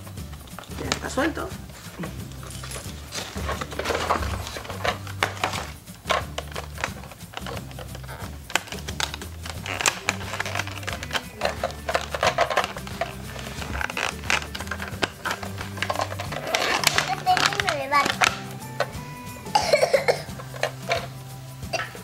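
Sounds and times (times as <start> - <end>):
background music with bass: 0.0 - 22.0
plastic toy clicks and knocks: 0.2 - 22.0
cardboard packaging rustling: 0.6 - 21.8.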